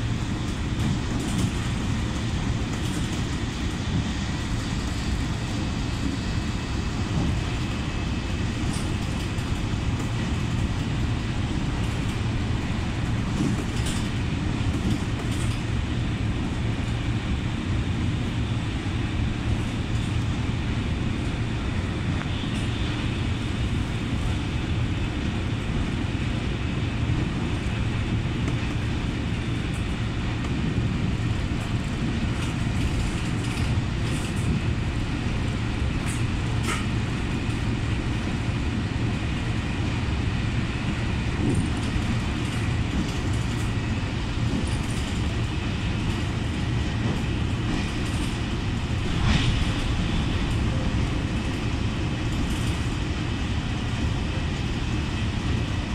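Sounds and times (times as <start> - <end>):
train low rumble: 0.0 - 55.9.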